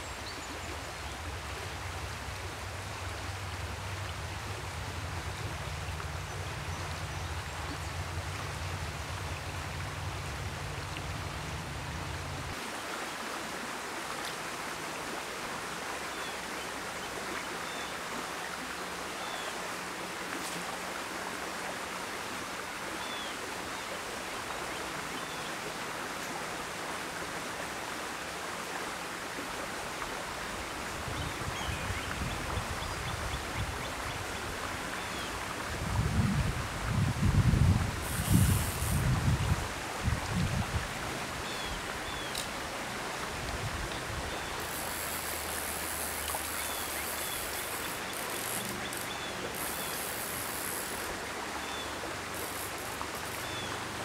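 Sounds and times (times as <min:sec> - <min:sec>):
stream flowing over stones: 0:00.0 - 0:54.0.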